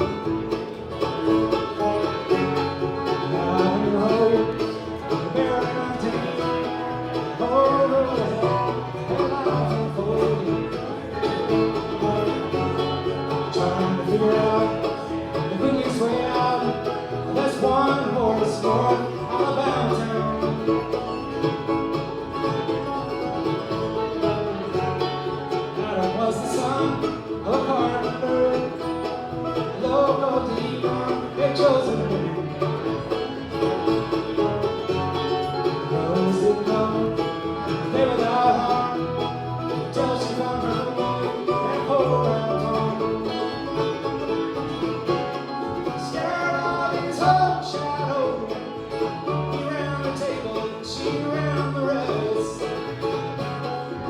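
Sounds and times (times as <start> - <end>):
banjo picking: 0.0 - 54.0
guitar picking: 0.0 - 54.0
steady bass line: 0.0 - 54.0.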